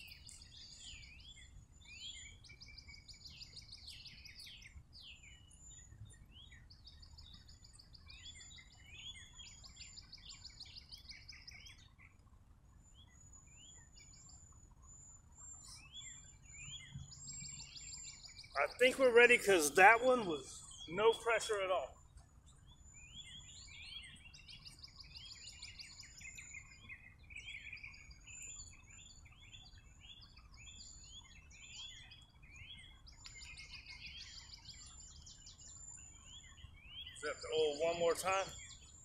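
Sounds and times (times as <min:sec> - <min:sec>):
songbirds trilling and chirping: 0:00.0 - 0:39.0.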